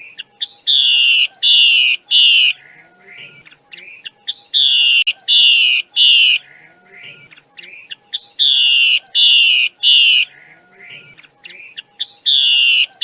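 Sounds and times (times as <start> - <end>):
bird harsh calls: 0.0 - 13.0.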